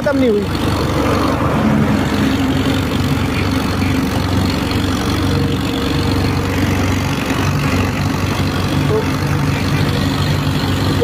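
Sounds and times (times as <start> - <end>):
road noise: 0.0 - 11.0
tractor diesel engine under load: 0.0 - 11.0.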